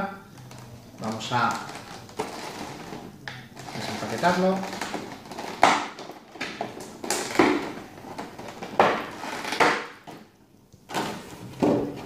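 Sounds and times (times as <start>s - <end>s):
plastic packaging crackling: 0.2s - 12.0s.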